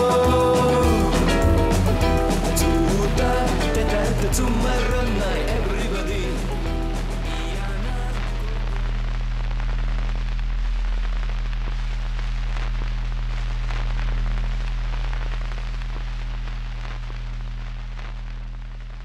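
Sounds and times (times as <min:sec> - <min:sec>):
crackling static noise: 0:00.0 - 0:19.0.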